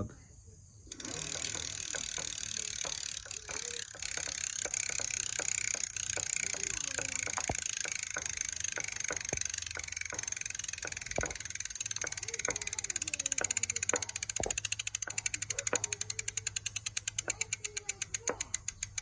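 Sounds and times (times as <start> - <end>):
hub motor regular knocking: 0.9 - 19.0.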